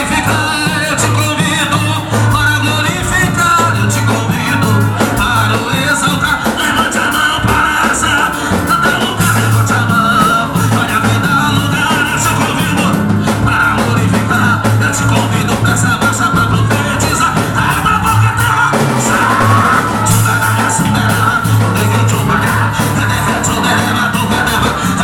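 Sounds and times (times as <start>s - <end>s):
band music: 0.0s - 25.0s
person singing: 0.0s - 25.0s.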